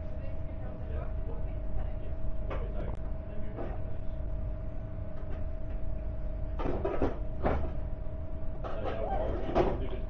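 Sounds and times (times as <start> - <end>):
constant pitched hum: 0.0 - 10.0.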